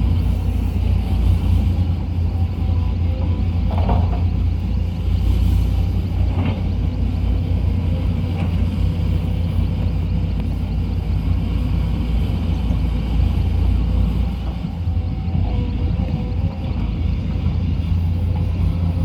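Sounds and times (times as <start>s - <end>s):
diesel engine low rumble: 0.0s - 19.0s.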